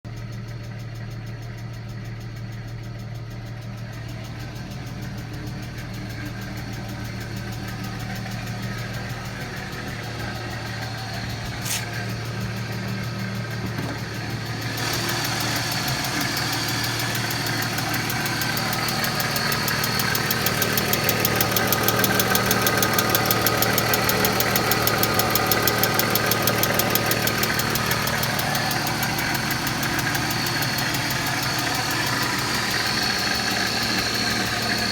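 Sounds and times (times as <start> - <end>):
car engine idling: 0.1 - 34.9
fast valvetrain ticking: 0.1 - 34.9.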